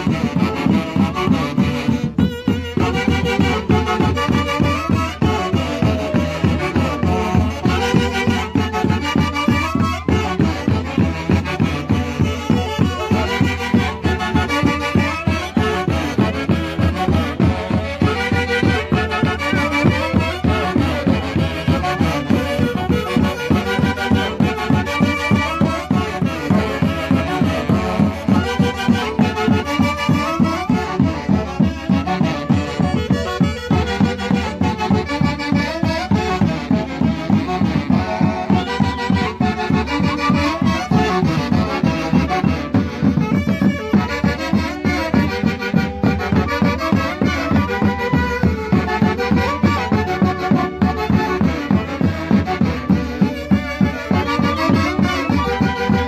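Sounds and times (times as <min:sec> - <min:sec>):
wind band playing folk dance music: 0:00.0 - 0:56.0.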